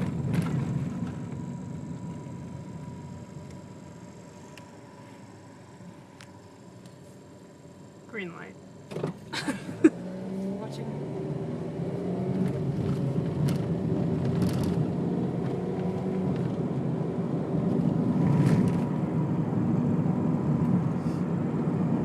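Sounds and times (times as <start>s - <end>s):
car engine hum and road noise: 0.0s - 22.0s.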